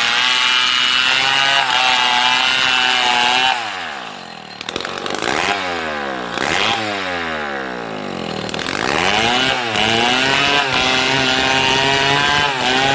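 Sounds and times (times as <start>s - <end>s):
chainsaw sawing wood: 0.0s - 12.9s.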